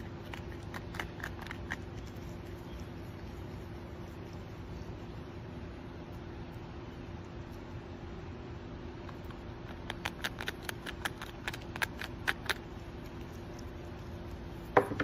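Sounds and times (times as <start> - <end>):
faint hiss and hum: 0.0 - 15.0
porcupine chewing crunchy food: 0.0 - 15.0.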